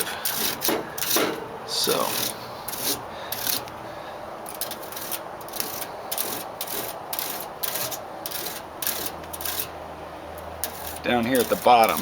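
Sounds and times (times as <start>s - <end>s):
comb scraping metal fins: 0.0s - 9.8s, 10.4s - 12.0s.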